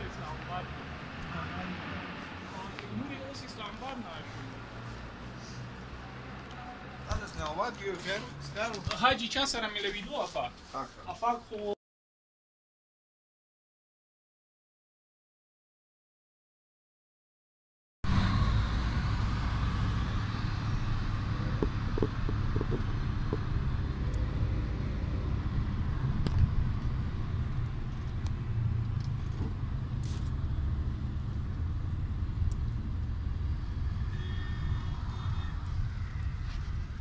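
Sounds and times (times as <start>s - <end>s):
vehicle engine and road rumble: 0.0s - 10.9s, 18.0s - 37.0s.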